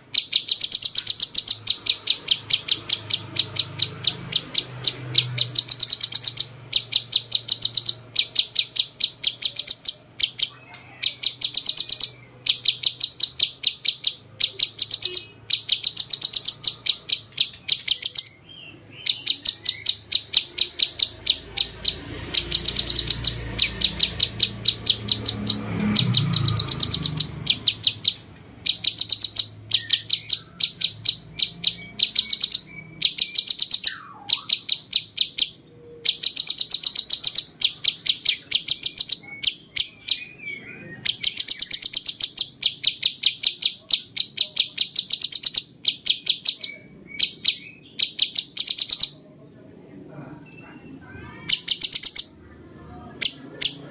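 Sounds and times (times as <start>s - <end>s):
bird singing sharp high notes: 0.0s - 53.9s.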